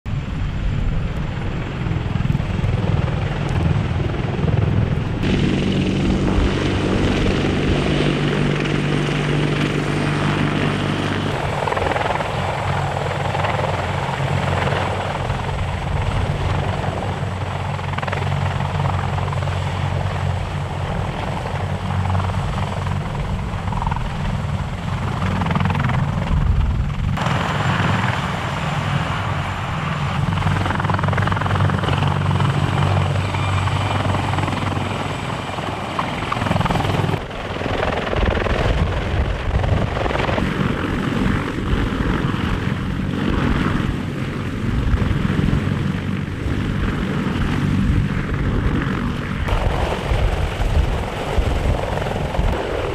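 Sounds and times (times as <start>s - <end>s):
helicopter rotor and turbine drone: 0.1s - 52.9s.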